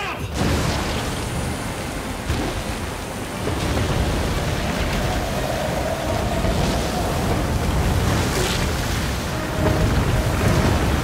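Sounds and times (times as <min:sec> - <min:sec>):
water rushing through dam breach: 0:00.0 - 0:11.0
deep rumble: 0:00.2 - 0:11.0.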